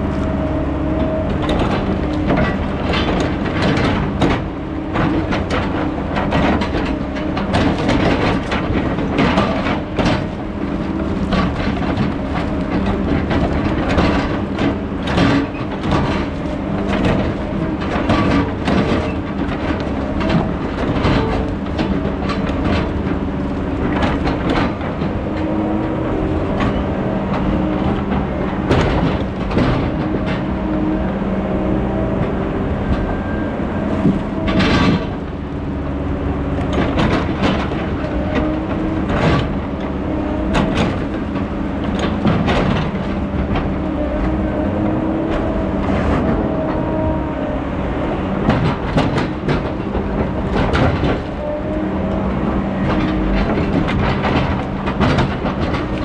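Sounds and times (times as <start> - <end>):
diesel engine running: 0.0 - 56.0
metal clanks and knocks: 0.0 - 56.0.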